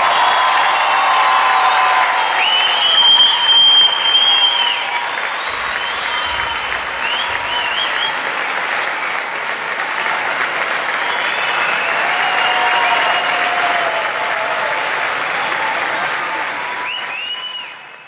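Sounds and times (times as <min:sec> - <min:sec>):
large audience applauding: 0:00.0 - 0:18.0.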